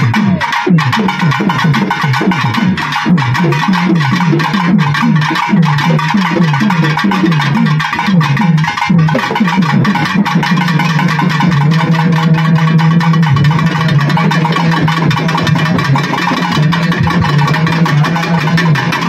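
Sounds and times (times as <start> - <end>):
fast dense percussion: 0.0 - 19.0.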